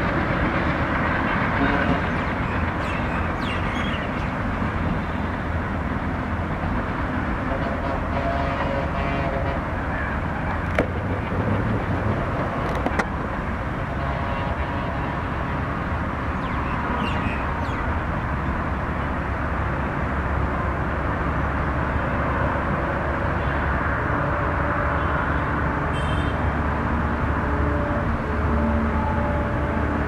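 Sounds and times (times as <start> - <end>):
locomotive engine rumble: 0.0 - 30.0
train wheel and rail noise: 0.0 - 30.0.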